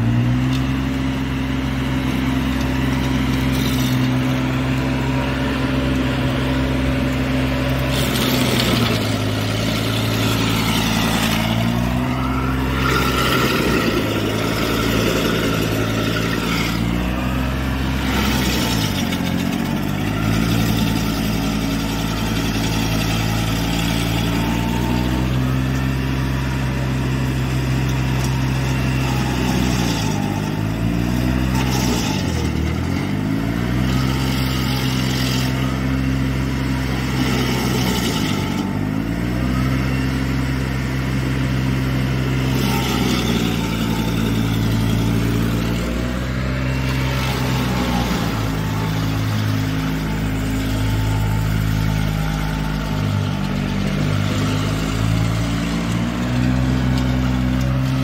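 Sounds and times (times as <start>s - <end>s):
stump grinder engine grinding: 0.0s - 58.0s.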